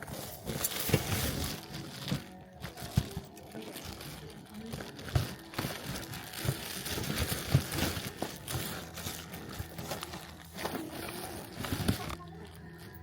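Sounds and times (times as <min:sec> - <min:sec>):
faint background music: 0:00.0 - 0:13.0
plastic packaging crinkling: 0:00.0 - 0:13.0.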